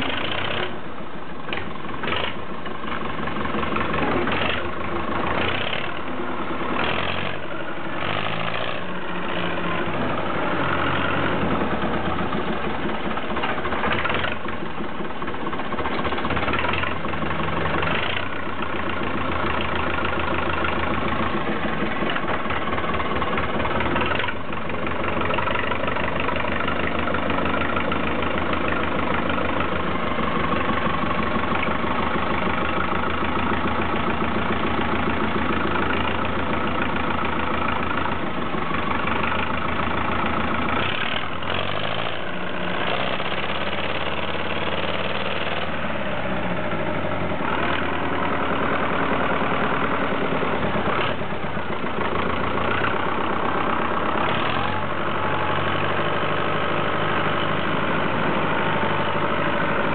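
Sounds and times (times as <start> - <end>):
tractor engine idling and revving: 0.0 - 59.9.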